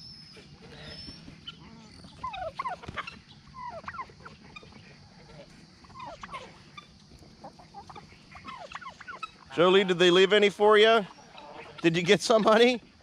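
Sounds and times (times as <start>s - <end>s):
turkeys chirping: 0.0s - 13.0s.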